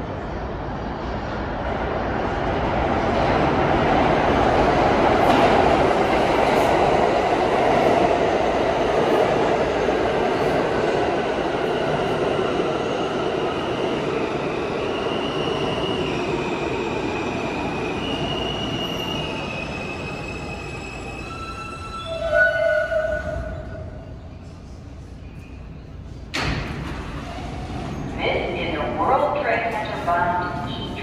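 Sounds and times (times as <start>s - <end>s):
subway train rumbling: 0.0s - 31.0s.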